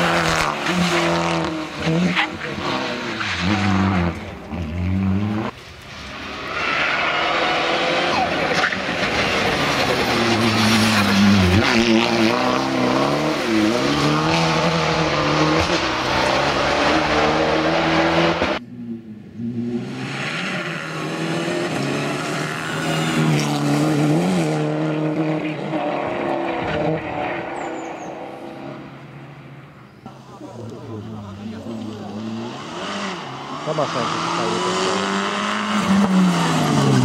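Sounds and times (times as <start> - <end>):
rally car engine at full throttle: 0.0 - 37.0.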